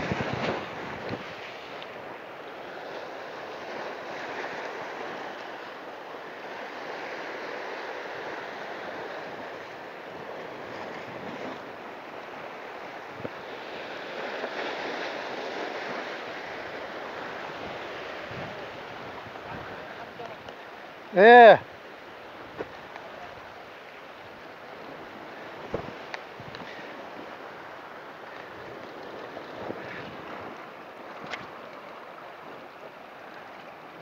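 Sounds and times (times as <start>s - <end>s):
ocean surf over rocks: 0.0s - 34.0s.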